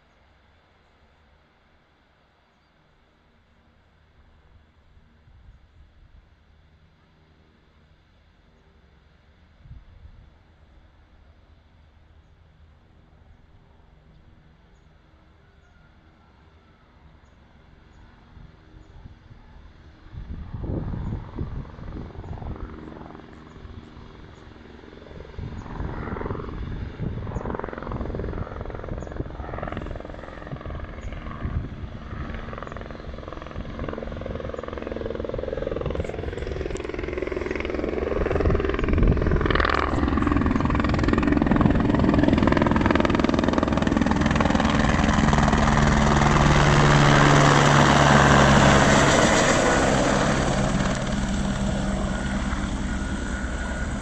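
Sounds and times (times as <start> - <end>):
helicopter passing overhead: 6.2 - 54.0.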